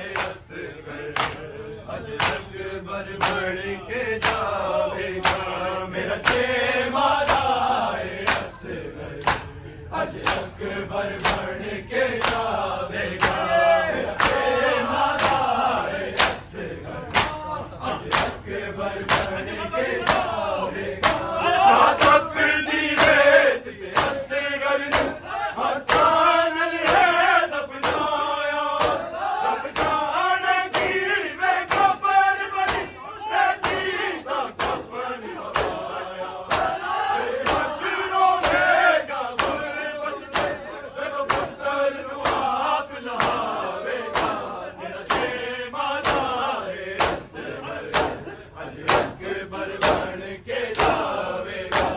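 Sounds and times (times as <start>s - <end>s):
men chanting in unison: 0.0s - 51.9s.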